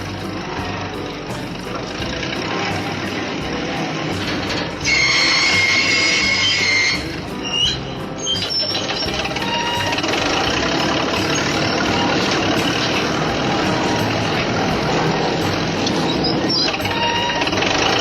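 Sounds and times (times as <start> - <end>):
remote-control truck engine: 0.0 - 18.0.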